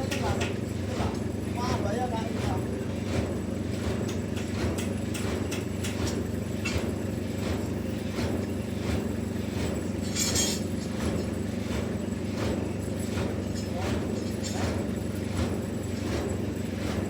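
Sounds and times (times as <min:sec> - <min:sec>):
sawmill machinery droning: 0:00.0 - 0:17.0
knocks and clatter: 0:03.0 - 0:17.0.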